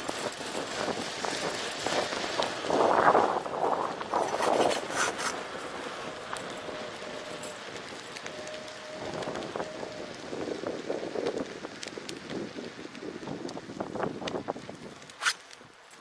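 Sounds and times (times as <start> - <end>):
bike tyres rolling on asphalt: 0.0 - 16.0.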